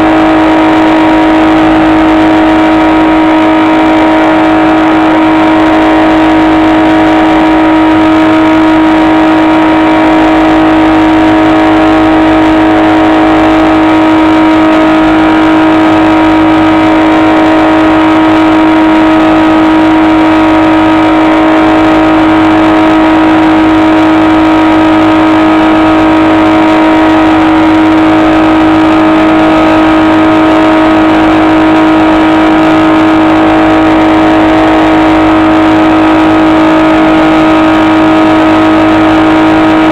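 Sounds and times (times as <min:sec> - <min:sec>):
model plane electric whine: 0:00.0 - 0:39.9.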